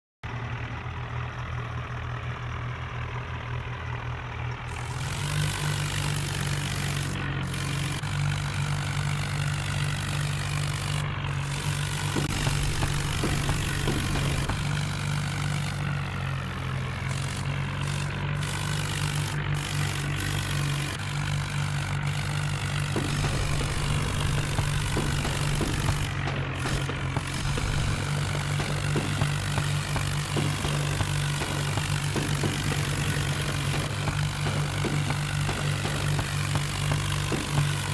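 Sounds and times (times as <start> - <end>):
diesel tractor engines running hard: 0.2 - 37.9.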